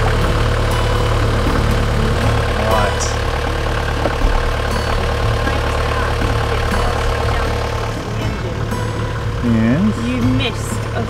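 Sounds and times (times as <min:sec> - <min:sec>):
diesel engine running at low revs: 0:00.0 - 0:11.0.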